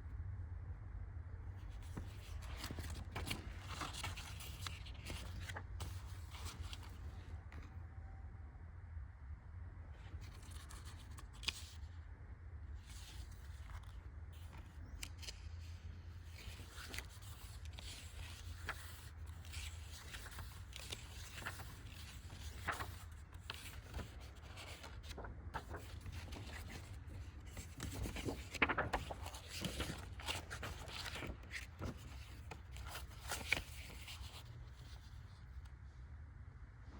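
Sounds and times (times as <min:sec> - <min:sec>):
low steady hum: 0:00.0 - 0:36.9
paper pages rustling and turning: 0:01.6 - 0:07.8, 0:10.0 - 0:11.9, 0:12.8 - 0:35.7.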